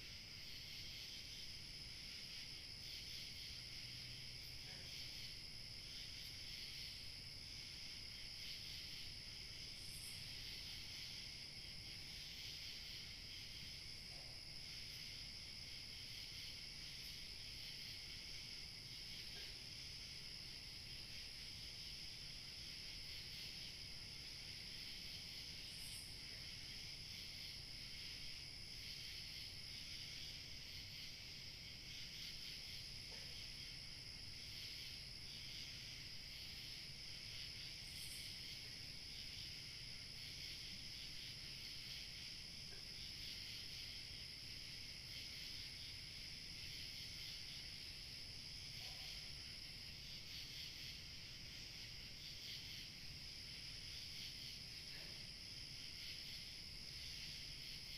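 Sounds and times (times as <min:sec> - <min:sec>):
crickets and insects chirring: 0:00.0 - 0:57.9.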